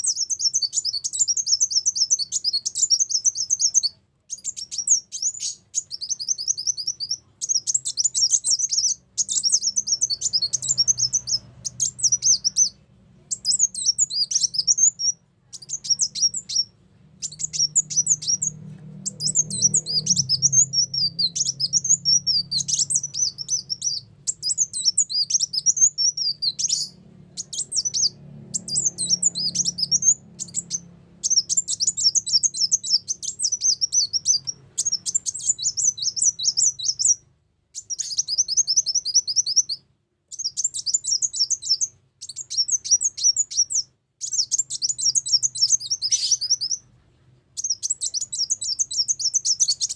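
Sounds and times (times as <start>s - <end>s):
bird twittering song: 0.0s - 46.9s, 47.5s - 49.9s
faint low hum: 0.0s - 49.9s.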